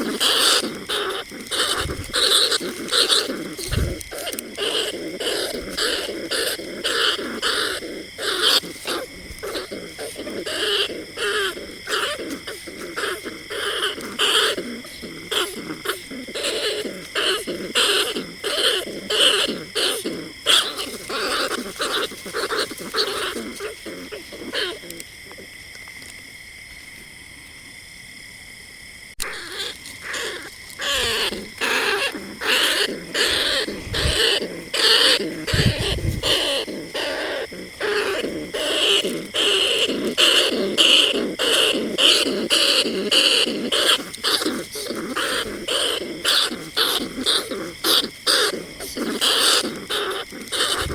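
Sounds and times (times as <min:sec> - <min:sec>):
rat calls: 0:00.0 - 0:26.2, 0:29.2 - 0:50.9.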